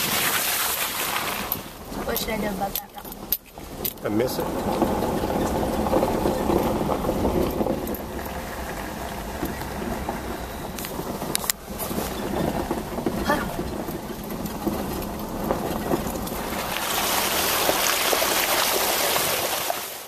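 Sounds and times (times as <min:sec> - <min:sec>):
car engine running at low speed: 0:00.0 - 0:19.9.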